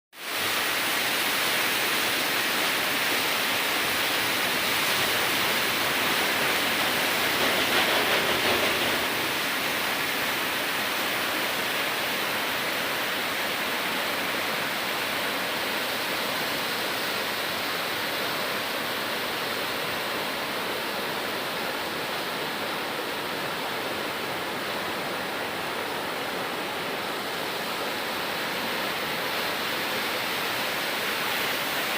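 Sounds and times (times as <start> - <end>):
rushing water: 0.2 - 31.9.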